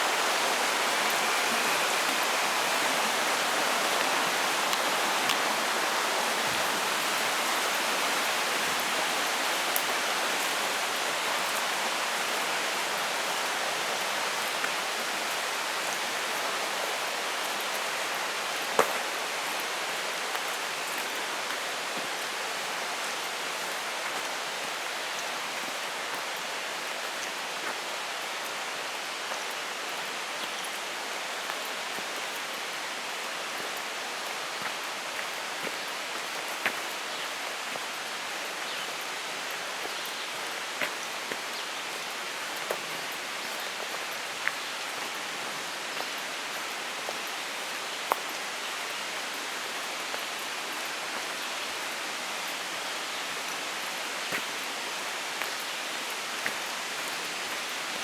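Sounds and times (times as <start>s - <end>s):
mountain creek running: 0.0s - 58.0s.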